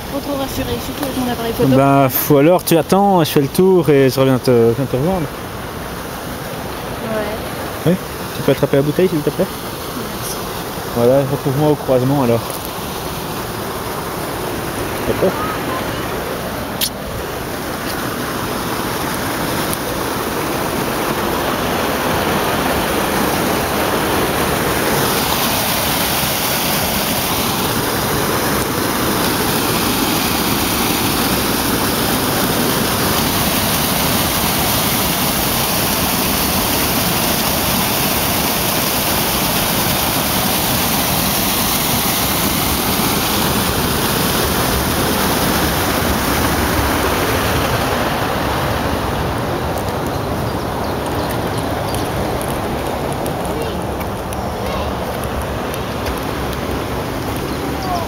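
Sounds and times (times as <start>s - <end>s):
waterfall rushing into pond: 0.0s - 58.0s.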